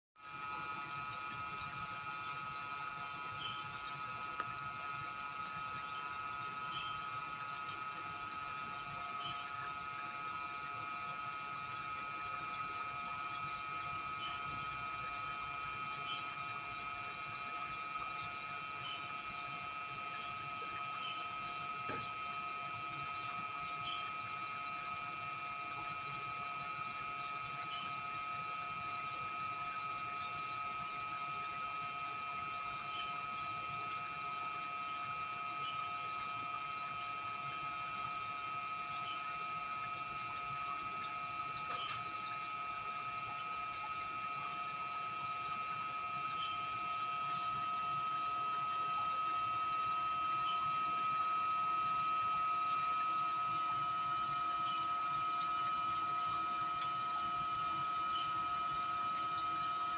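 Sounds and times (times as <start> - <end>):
pond pump humming: 0.2 - 59.9
water noise: 0.2 - 59.9.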